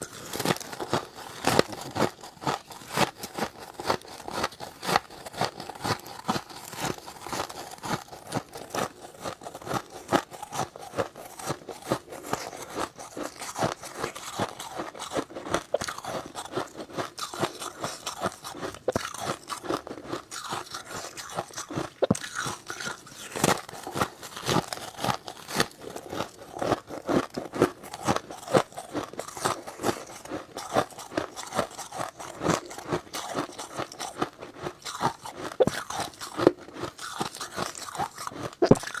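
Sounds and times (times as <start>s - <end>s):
crunching and chewing frost: 0.0s - 39.0s.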